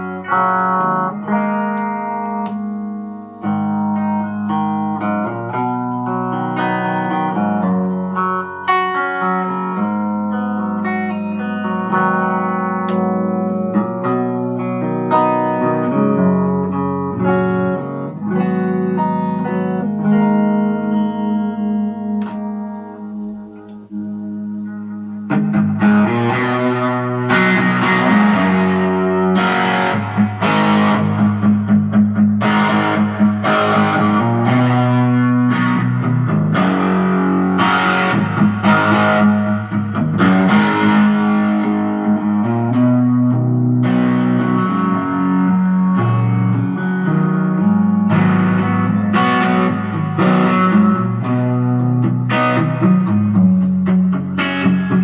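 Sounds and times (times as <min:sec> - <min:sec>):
distorted electric guitar chords: 0:00.0 - 0:55.0.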